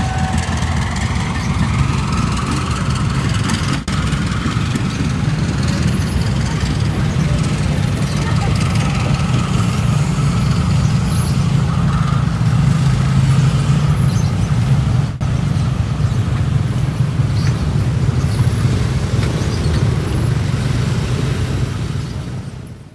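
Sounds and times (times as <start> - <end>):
heavy engines rumbling: 0.0 - 22.9.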